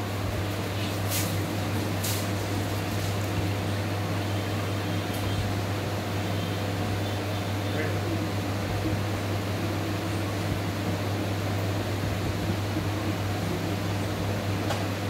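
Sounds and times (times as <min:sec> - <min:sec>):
electric machine hum: 0:00.0 - 0:15.0.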